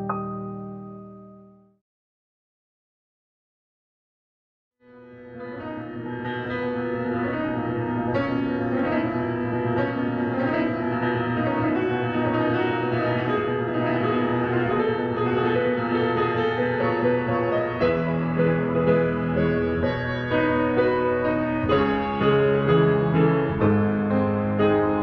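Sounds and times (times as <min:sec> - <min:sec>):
grand piano chords: 0:00.0 - 0:01.7, 0:04.8 - 0:25.0.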